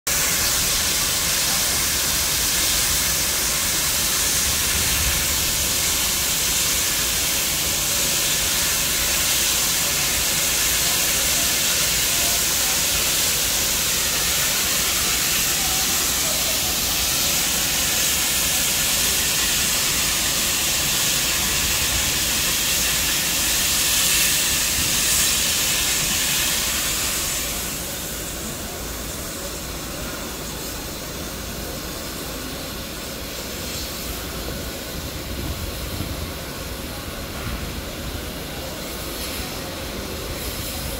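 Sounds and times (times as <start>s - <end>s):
steam hissing from locomotive: 0.1s - 40.9s.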